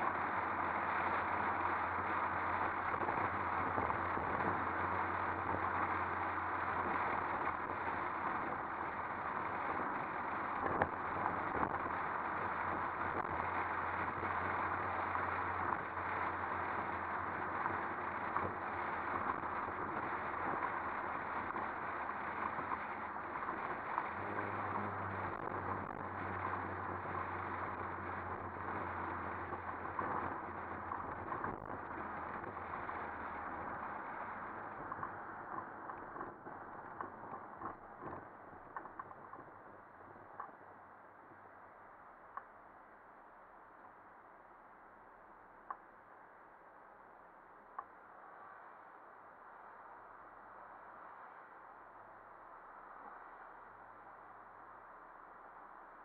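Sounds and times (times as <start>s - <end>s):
road noise: 0.0s - 44.9s
low steady hum: 0.0s - 56.0s.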